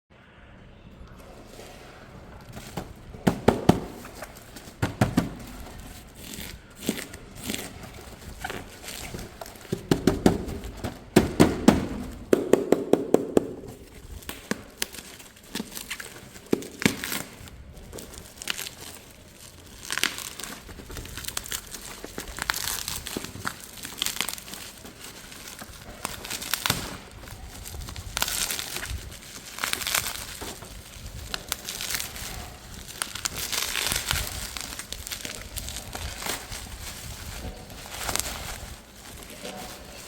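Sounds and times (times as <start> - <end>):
packaging crinkling and tearing: 1.1 - 40.0.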